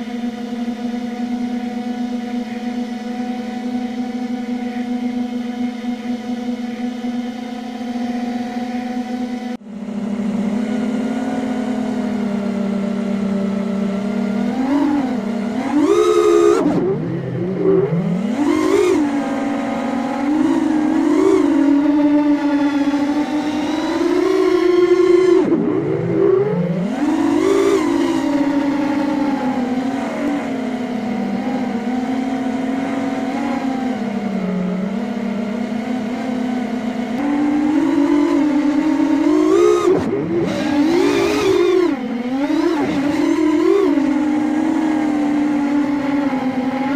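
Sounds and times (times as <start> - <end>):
drone motors whining: 0.0 - 46.9.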